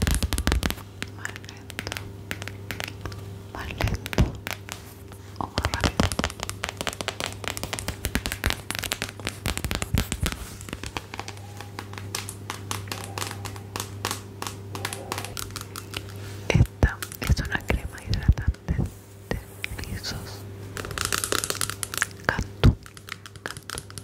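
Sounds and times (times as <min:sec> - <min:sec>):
crinkling and crackling clicks: 0:00.0 - 0:18.9, 0:20.8 - 0:24.0
faint steady hum: 0:00.0 - 0:24.0.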